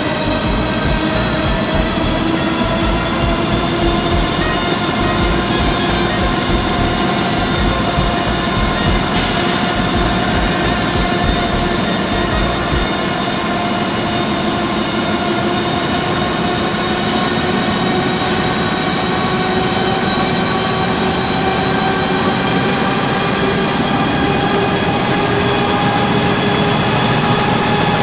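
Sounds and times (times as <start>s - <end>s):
printing press drone and whine: 0.0s - 28.0s.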